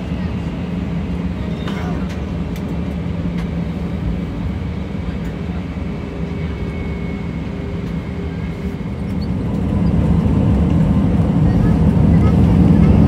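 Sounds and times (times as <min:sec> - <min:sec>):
aircraft cabin drone: 0:00.0 - 0:13.0
faint engine whine: 0:00.0 - 0:13.0.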